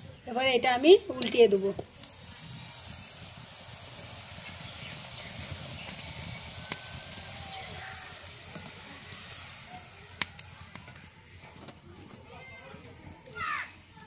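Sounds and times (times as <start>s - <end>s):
oil sizzling in wok: 0.0s - 14.0s.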